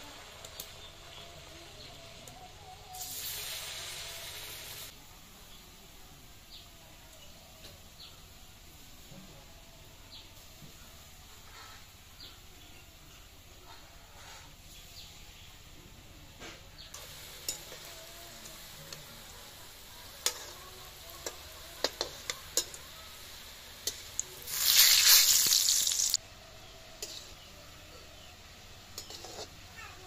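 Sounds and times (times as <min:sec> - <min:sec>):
fritters sizzling in oil: 0:00.0 - 0:30.0.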